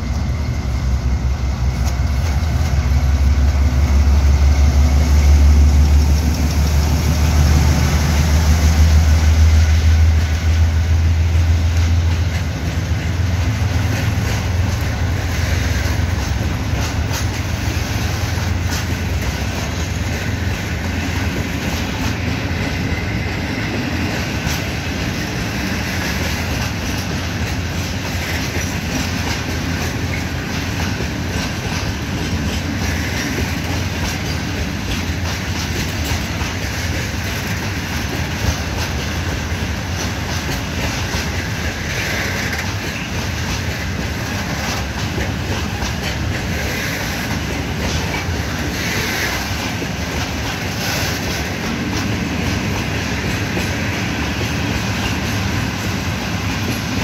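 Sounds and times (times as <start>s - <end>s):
steel wheels clattering on rail: 0.0s - 57.0s.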